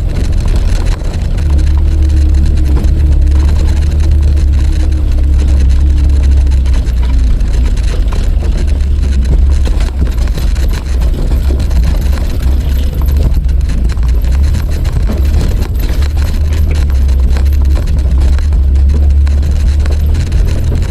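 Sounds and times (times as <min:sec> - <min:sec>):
vehicle engine rumble: 0:00.0 - 0:20.9.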